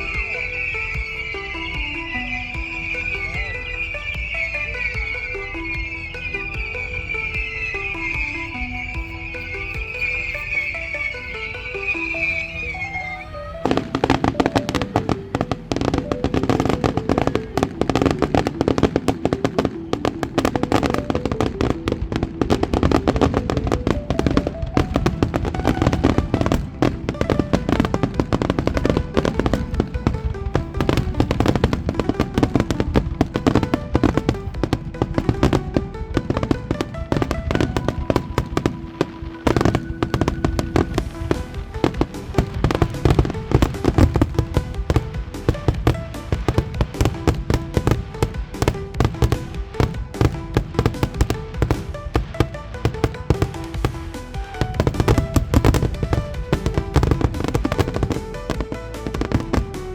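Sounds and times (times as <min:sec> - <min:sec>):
fireworks bangs and crackling: 0:00.0 - 0:59.9
music playing: 0:00.0 - 0:59.9.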